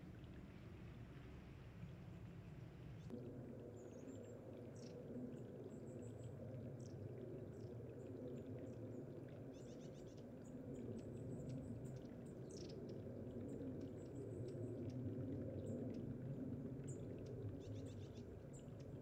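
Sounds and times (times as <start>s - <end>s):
water trickling over rocks: 0.0s - 19.0s.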